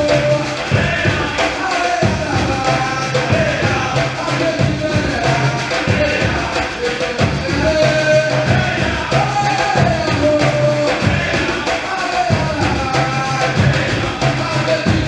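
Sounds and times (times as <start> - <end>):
drum groove: 0.0 - 15.0
voices singing held notes: 0.0 - 15.0.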